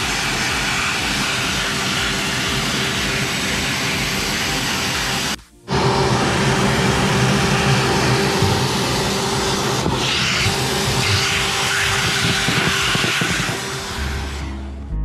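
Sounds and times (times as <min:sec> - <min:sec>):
drill motor whine: 0:00.0 - 0:14.7.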